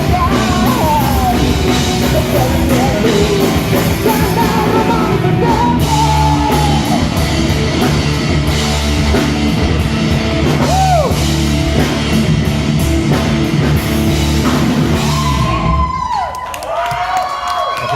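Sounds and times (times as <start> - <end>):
rock band playing loudly: 0.0 - 16.1.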